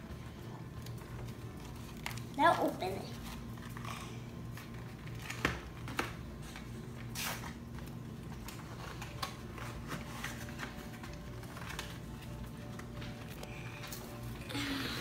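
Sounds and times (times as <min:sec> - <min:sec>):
wrapper crinkling: 0:00.7 - 0:14.5.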